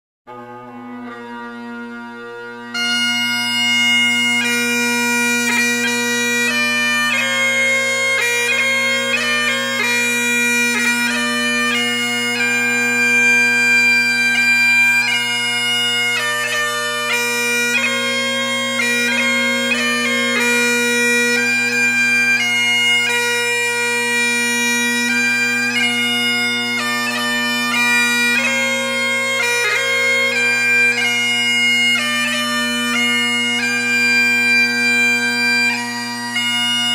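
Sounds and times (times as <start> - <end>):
bagpipe melody with drones: 0.3 - 36.9.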